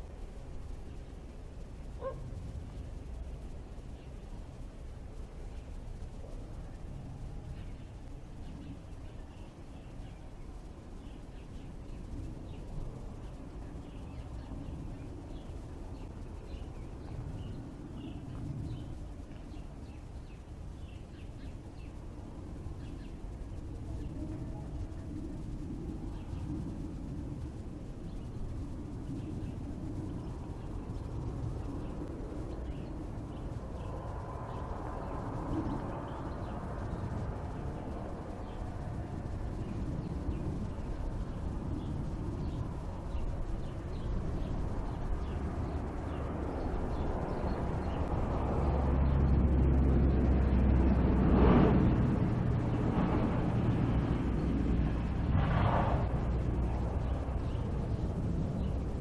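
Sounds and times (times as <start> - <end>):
outdoor ambience: 0.0 - 59.0
vehicle engine rumble: 0.0 - 59.0.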